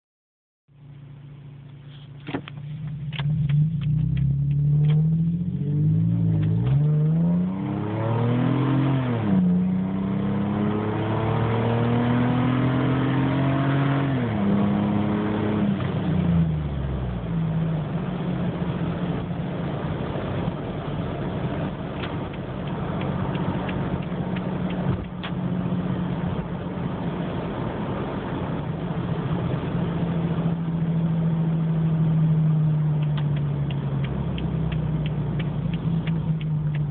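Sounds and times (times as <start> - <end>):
car engine exhaust accelerating: 1.3 - 36.9.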